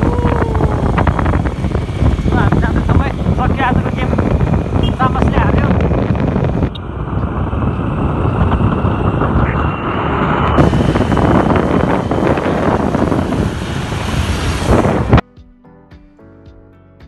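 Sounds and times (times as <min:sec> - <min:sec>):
motorcycle engine: 0:00.0 - 0:15.2
road noise: 0:00.0 - 0:15.2
wind buffeting microphone: 0:00.0 - 0:15.2.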